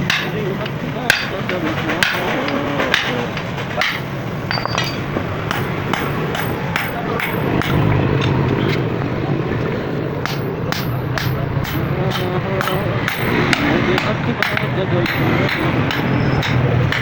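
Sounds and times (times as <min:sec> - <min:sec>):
hammer striking iron on anvil: 0:00.0 - 0:07.9, 0:10.2 - 0:17.0
low background hum: 0:00.0 - 0:17.0.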